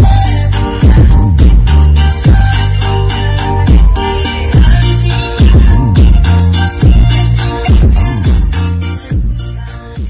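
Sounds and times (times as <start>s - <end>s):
bass-heavy dance music: 0.0s - 10.0s.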